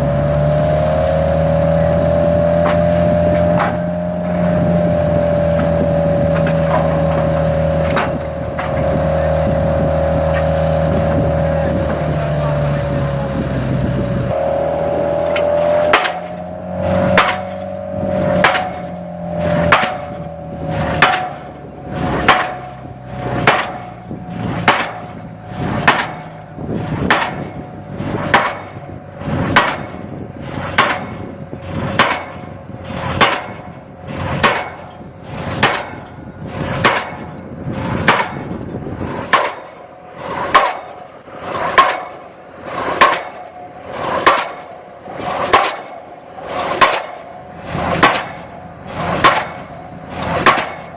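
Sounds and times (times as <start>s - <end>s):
machine hum: 0.0s - 50.9s
pile driver hammer blows: 0.0s - 50.9s.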